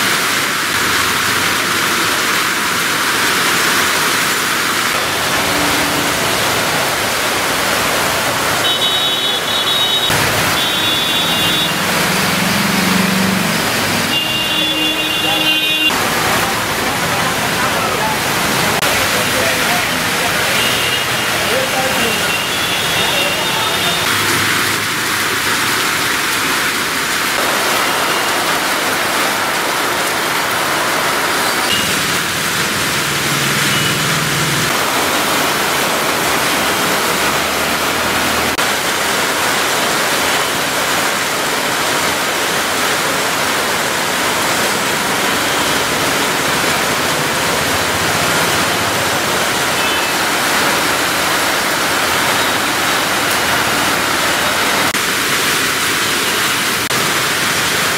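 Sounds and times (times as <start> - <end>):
heavy rain on a street: 0.0 - 57.9.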